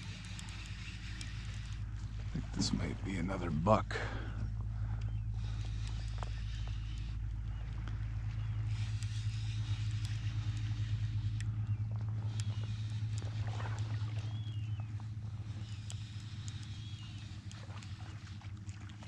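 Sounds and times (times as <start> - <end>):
high bending bird calls: 0.0 - 18.3
boat engine drone: 0.0 - 19.0.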